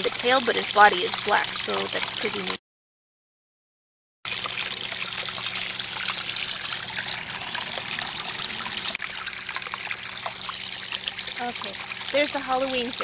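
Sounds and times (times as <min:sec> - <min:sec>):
small waterfall splashing: 0:00.0 - 0:02.6, 0:04.3 - 0:13.0.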